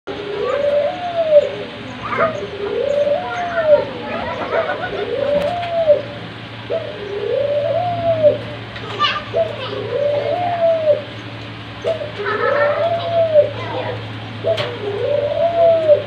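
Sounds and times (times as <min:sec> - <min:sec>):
doves cooing: 0:00.1 - 0:16.0.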